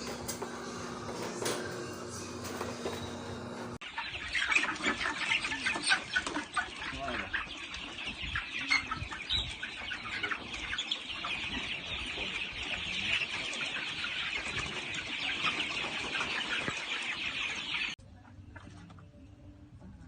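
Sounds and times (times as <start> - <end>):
chickens clucking and cheeping: 0.0 - 20.0.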